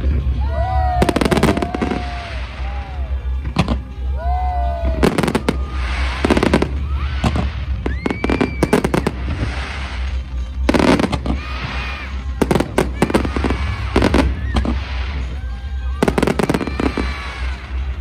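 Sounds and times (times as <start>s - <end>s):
fireworks bangs and crackling: 0.0s - 18.0s
fireworks hissing: 0.0s - 18.0s.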